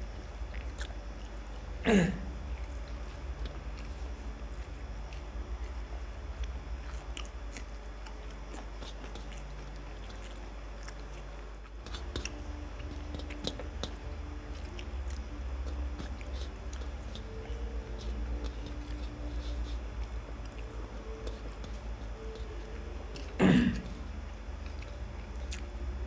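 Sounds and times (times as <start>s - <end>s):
chewing: 0.0s - 26.0s
low steady hum: 0.0s - 26.0s
fingers mixing rice on plates: 2.4s - 26.0s.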